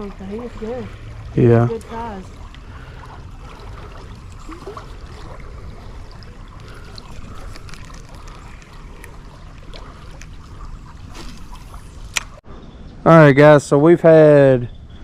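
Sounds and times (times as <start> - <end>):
creek water running: 0.0 - 12.4.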